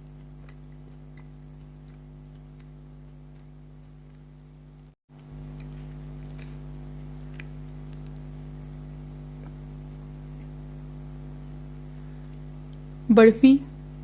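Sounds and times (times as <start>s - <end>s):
person chewing: 0.0s - 10.9s, 12.0s - 13.0s
low electrical hum: 0.0s - 14.0s.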